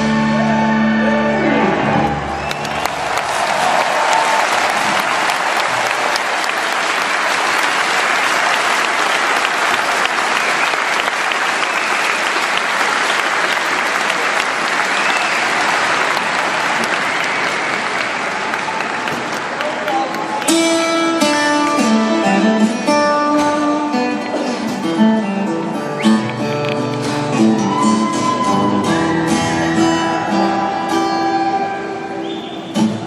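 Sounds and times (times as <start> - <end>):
concert audience applauding: 0.4 - 21.9, 25.7 - 33.0.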